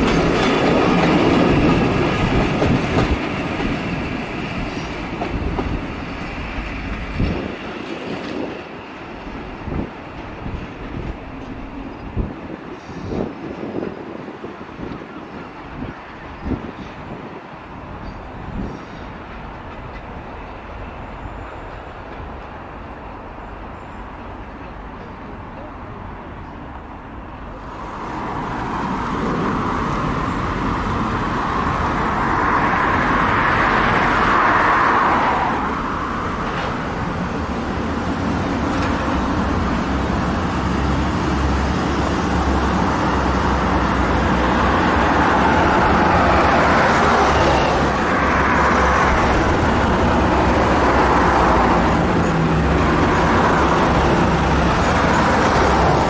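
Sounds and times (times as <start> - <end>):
diesel trains running: 0.0 - 56.0.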